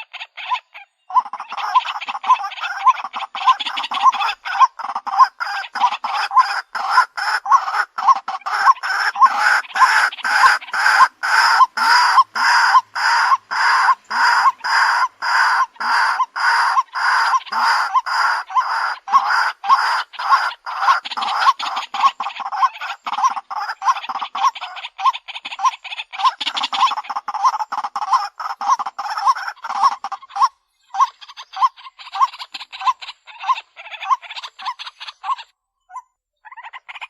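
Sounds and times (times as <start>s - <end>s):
bird harsh kwak calls: 0.0s - 37.0s.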